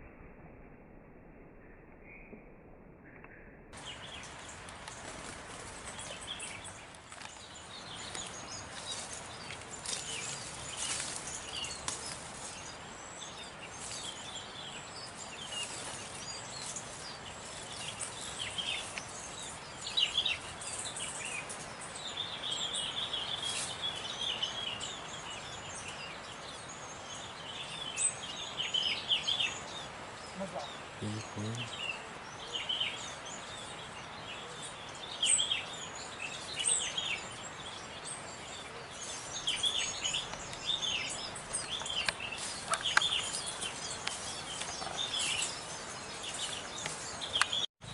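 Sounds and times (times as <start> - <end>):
small birds chirping: 3.8 - 47.9.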